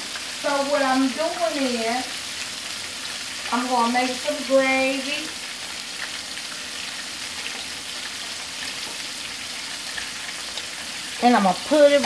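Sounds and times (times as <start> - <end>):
steak sizzling in hot oil: 0.0 - 12.0.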